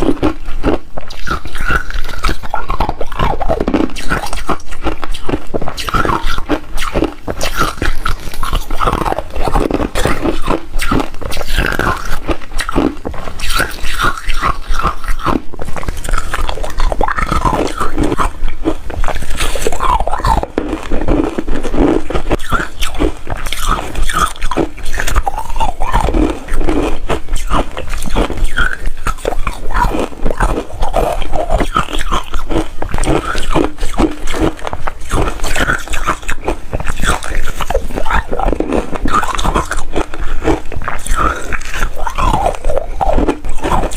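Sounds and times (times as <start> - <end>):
person crunching ice: 0.0 - 43.9.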